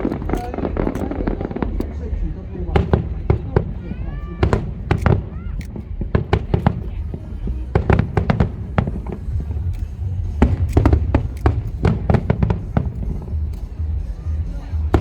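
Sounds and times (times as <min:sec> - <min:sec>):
continuous low rumble: 0:00.0 - 0:15.0
fireworks bangs and crackling: 0:00.0 - 0:15.0.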